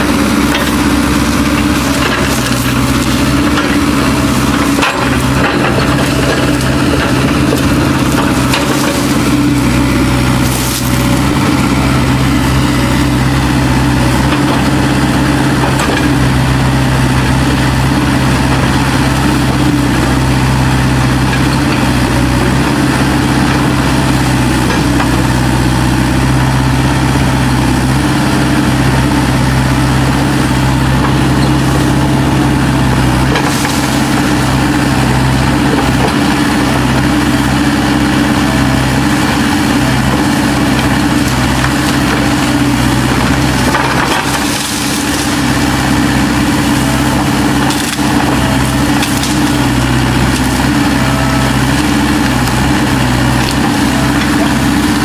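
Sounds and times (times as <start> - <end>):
wood crunching and cracking: 0.0 - 25.4, 29.7 - 55.0
excavator diesel engine running: 0.0 - 55.0.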